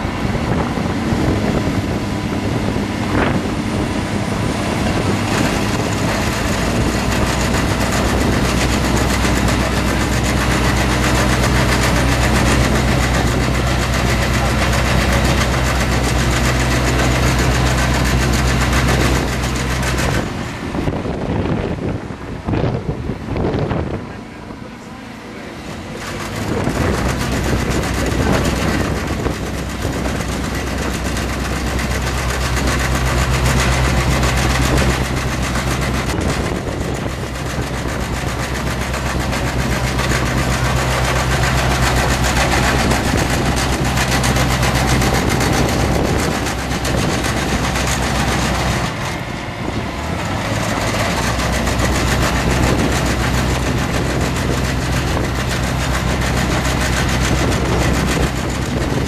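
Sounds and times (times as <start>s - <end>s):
road roller diesel engine running: 0.0s - 59.0s.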